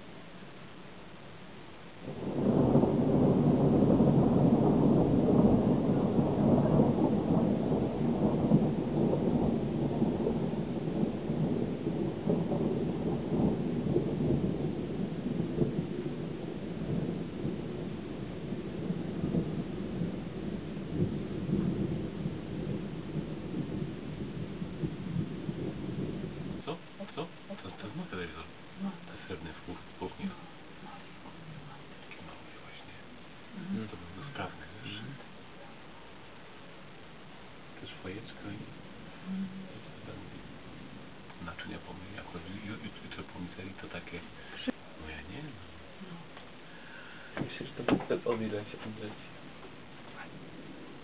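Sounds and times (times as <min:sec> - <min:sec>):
rain hissing: 0:00.0 - 0:51.0
thunder rumbling: 0:00.0 - 0:51.0.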